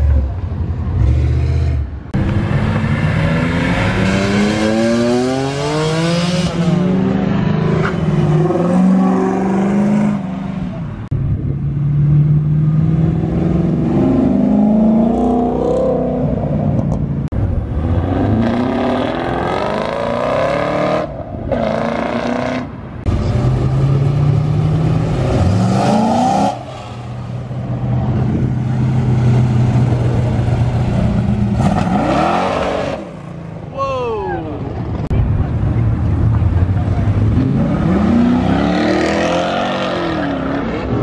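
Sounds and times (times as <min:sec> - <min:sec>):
car engines revving and accelerating: 0:00.0 - 0:41.0.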